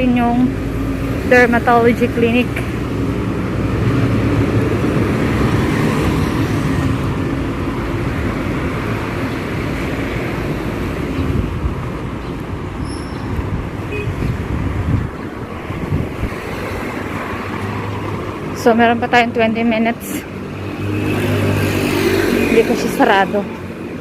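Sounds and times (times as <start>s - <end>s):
street traffic passing: 0.0s - 24.0s
vehicle engine humming: 0.0s - 24.0s.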